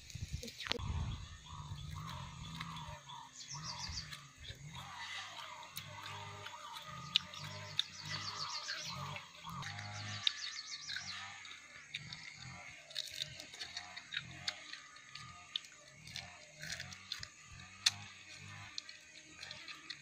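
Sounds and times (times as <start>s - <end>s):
high chirping trills: 0.3s - 16.8s
wet chewing and crunching: 1.5s - 20.0s.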